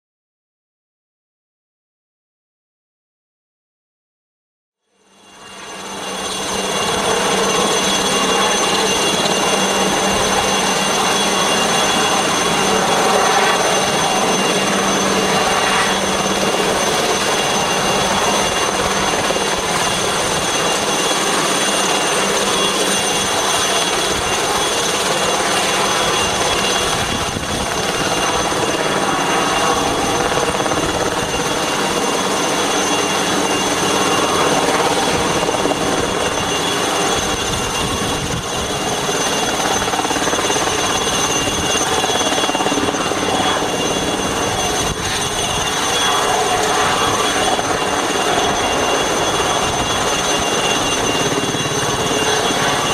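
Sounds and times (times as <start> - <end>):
helicopter rotor and engine drone: 4.8 - 52.9.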